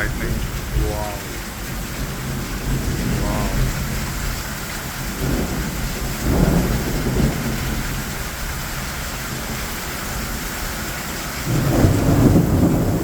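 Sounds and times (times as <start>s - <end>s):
thunder rumble: 0.0s - 10.4s, 11.4s - 13.0s
heavy rain pouring: 0.0s - 13.0s.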